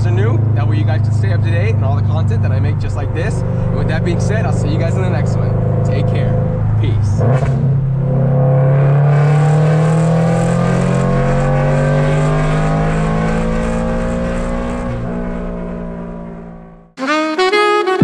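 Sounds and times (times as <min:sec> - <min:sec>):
car exhaust while driving: 0:00.0 - 0:17.0.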